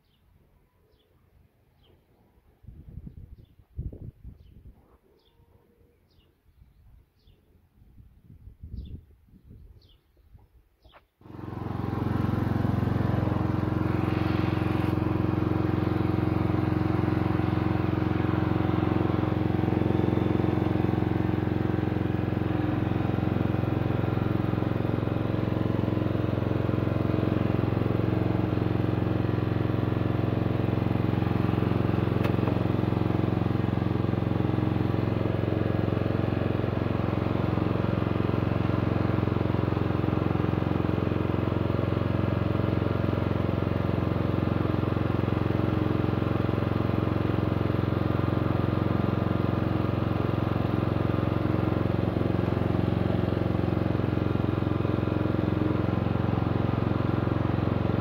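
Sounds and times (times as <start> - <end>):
lawn tractor engine running: 11.2 - 58.0.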